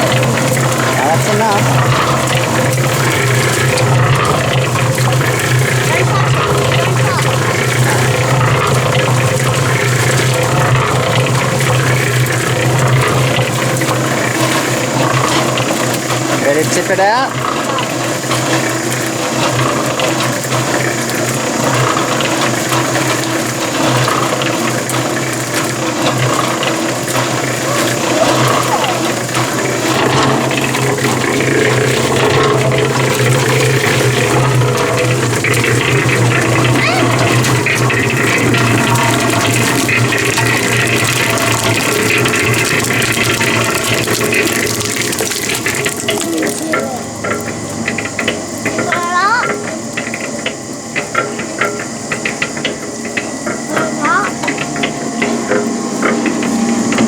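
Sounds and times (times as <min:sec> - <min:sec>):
concrete mixer running: 0:00.0 - 0:57.0
drum rattling with sand: 0:00.0 - 0:57.0
motor hum: 0:00.0 - 0:57.0.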